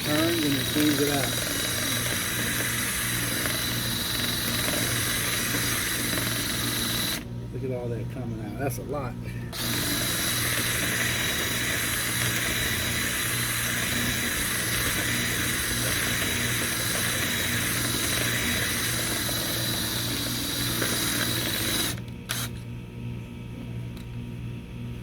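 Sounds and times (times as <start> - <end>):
drill spinning brush in duct: 0.0 - 7.3, 9.5 - 22.6.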